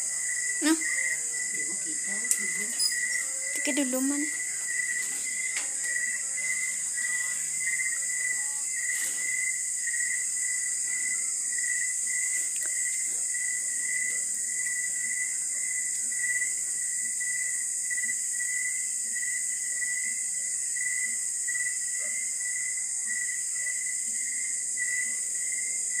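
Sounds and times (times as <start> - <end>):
crickets chirping: 0.0 - 26.0
pulsing insect trill: 0.0 - 26.0.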